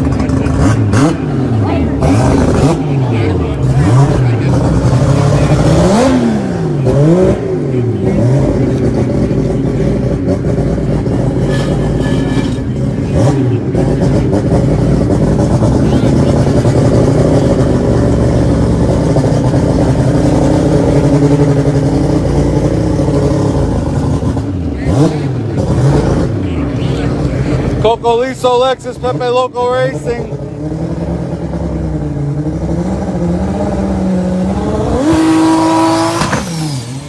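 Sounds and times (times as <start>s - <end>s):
race car engine revving and idling: 0.0s - 37.0s.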